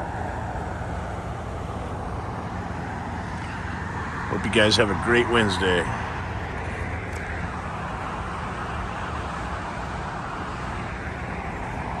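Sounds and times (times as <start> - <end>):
rumble of traffic: 0.0 - 12.0.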